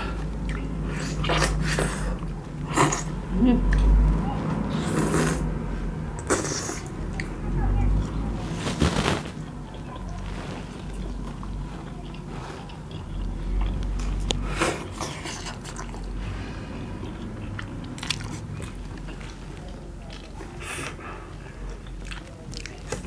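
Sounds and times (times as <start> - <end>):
people chewing and biting: 0.0 - 5.5, 6.2 - 23.0.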